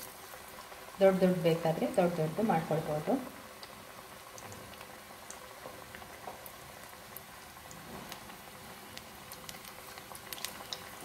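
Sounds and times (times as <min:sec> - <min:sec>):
oil crackling and popping: 0:00.0 - 0:01.0, 0:02.5 - 0:11.0
fritter sizzling in hot oil: 0:00.0 - 0:11.0.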